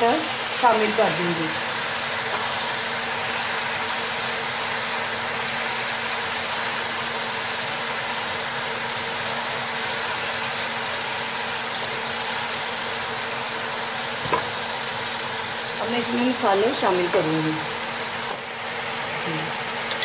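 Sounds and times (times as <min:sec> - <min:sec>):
vegetables frying in oil: 0:00.0 - 0:20.0.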